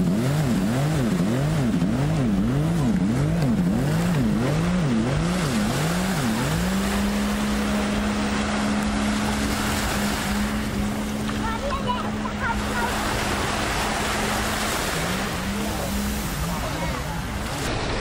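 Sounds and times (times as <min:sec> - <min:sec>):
jet ski engine revving: 0:00.0 - 0:18.0.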